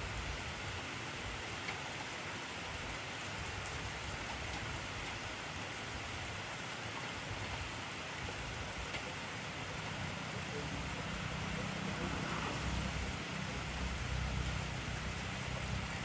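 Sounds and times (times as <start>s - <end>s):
intense rain falling: 0.0s - 16.0s.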